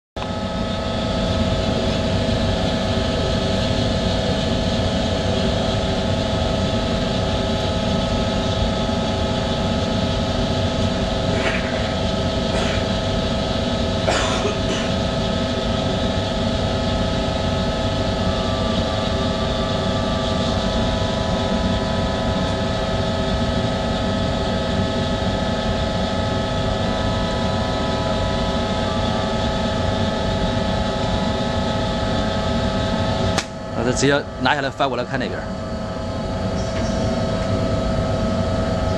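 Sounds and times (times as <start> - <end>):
machine drone with hum: 0.2 - 38.9.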